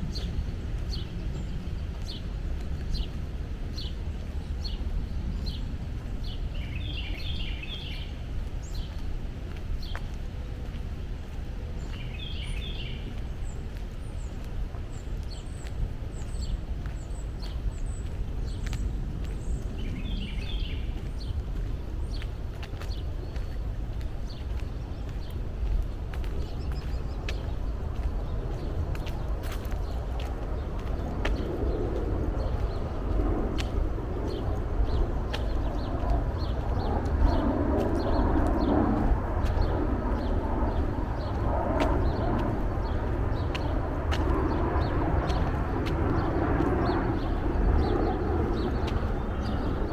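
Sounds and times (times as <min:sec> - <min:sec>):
footsteps on a path: 0:00.0 - 0:49.9
small birds chirping: 0:00.0 - 0:49.9.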